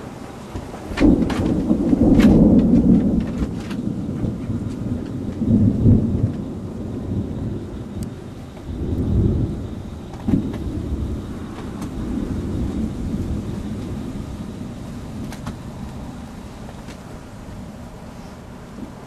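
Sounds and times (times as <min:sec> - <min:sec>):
thunder crack: 0:00.0 - 0:18.0
thunder rumbling: 0:00.0 - 0:19.0.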